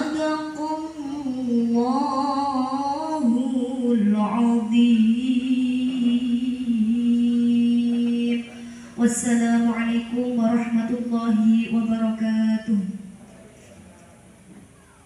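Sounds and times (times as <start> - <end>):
person reciting in melodic style: 0.0 - 13.0.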